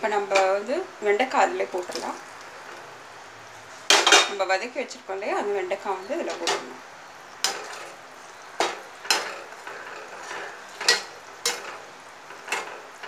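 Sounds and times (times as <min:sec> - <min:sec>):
simmering gravy hiss: 0:00.0 - 0:13.0.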